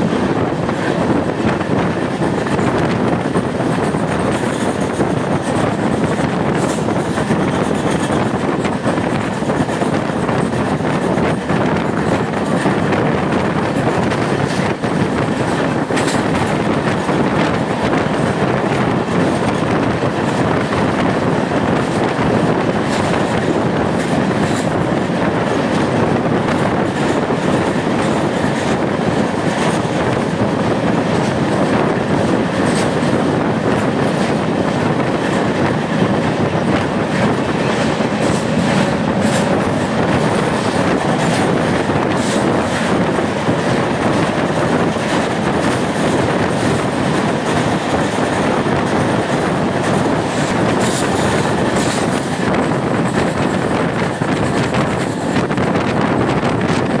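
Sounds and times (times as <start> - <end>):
clickety-clack of wheels: 0.0 - 57.0
train wheels rumbling on rails: 0.0 - 57.0.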